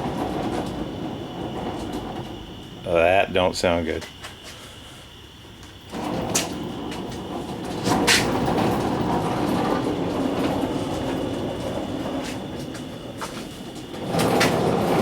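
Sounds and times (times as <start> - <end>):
transaxle grinding rumble: 0.0 - 3.3, 5.8 - 15.0.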